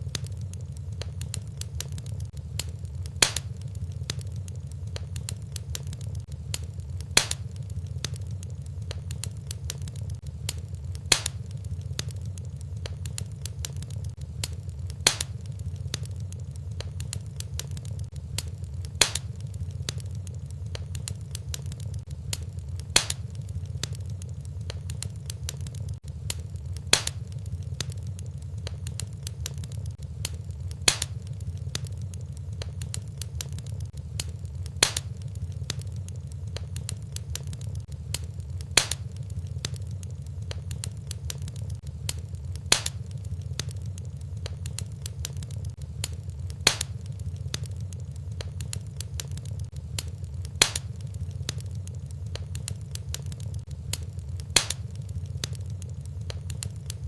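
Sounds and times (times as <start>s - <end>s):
sharp fire pops: 0.0s - 57.0s
wood fire crackling: 0.0s - 57.0s.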